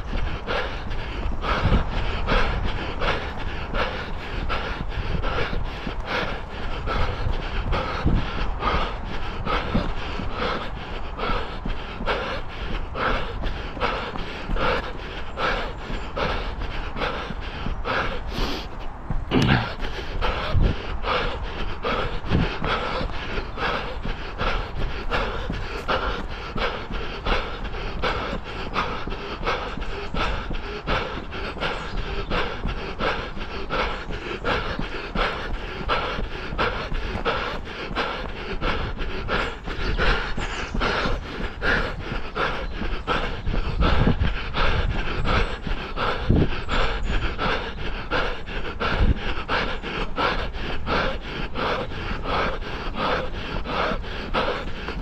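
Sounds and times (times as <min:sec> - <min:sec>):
heavy panting: 0:00.0 - 0:55.0
running footsteps: 0:00.0 - 0:55.0.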